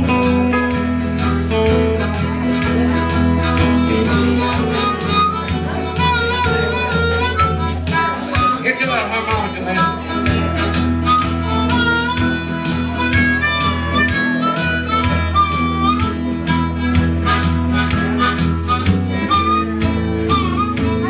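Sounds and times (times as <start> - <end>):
acoustic guitar: 0.0 - 21.0
harmonica playing: 0.0 - 21.0.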